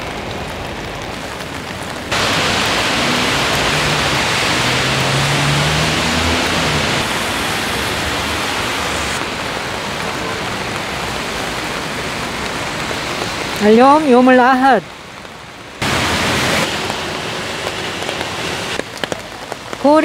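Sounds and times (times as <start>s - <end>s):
rain falling on wet pavement: 0.0s - 20.0s.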